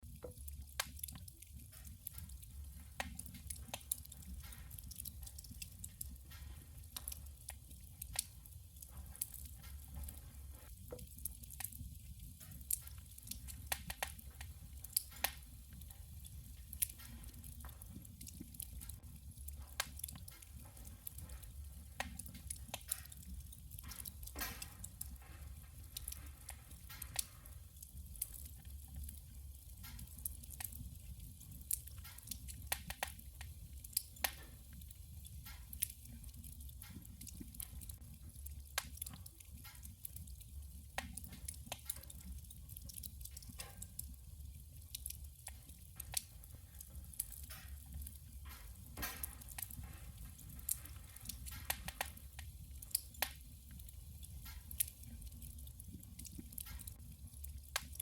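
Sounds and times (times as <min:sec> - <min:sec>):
firewood crackling and popping: 0:00.0 - 0:58.0
low rumble of fire: 0:00.0 - 0:58.0.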